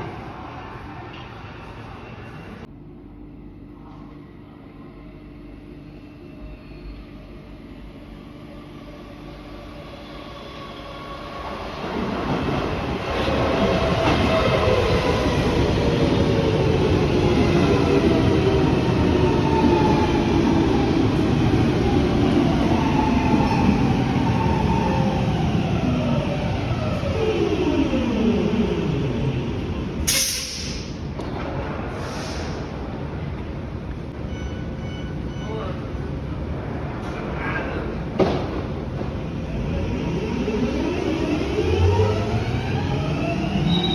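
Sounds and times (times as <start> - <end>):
train pulling in and slowing: 0.0 - 43.9.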